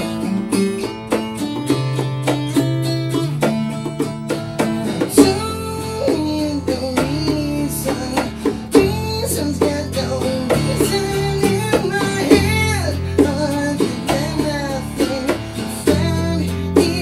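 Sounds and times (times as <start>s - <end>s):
acoustic guitar strumming: 0.0s - 17.0s
bongos played by hand: 0.0s - 17.0s.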